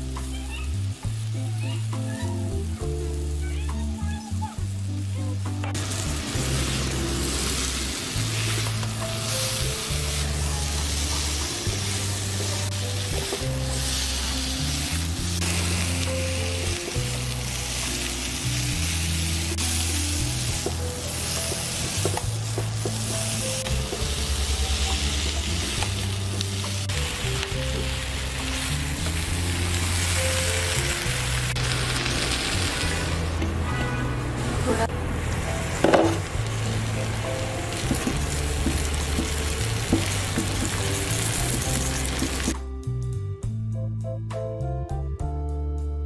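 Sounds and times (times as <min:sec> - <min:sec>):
food sizzling in oil: 0:00.0 - 0:34.7, 0:35.4 - 0:42.6
background music with slow bass: 0:00.0 - 0:46.0.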